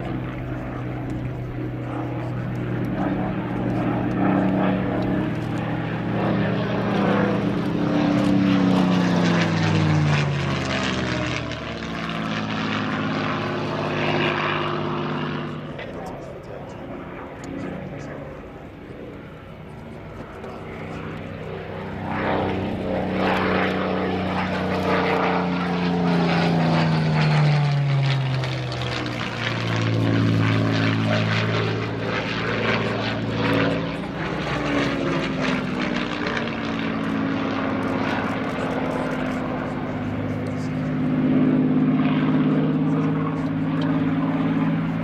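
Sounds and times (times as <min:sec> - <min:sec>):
propeller planes flying past: 0:00.0 - 0:45.0.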